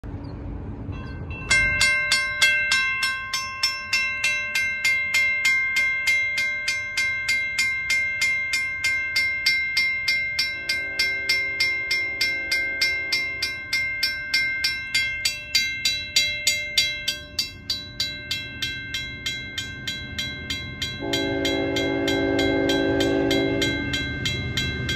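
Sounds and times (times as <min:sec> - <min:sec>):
crossing signal bell ringing: 0:00.8 - 0:24.9.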